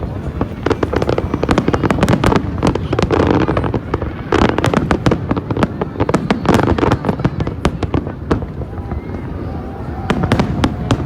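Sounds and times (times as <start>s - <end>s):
fireworks bangs and booms: 0.0s - 11.0s
fireworks crackle: 0.0s - 11.0s.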